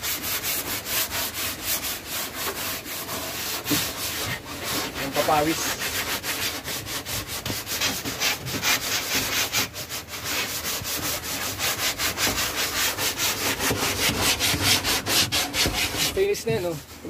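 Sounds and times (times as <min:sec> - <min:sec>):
sandpaper scratching on wood: 0:00.0 - 0:17.0.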